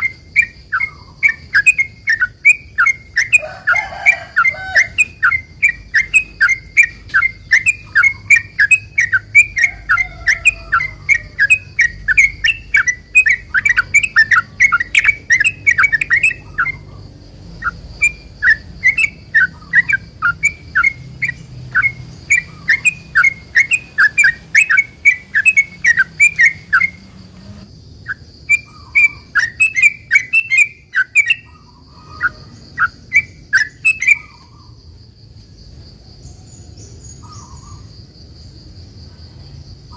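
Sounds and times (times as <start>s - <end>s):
bird singing rapid chirps: 0.0s - 34.8s, 36.3s - 37.9s.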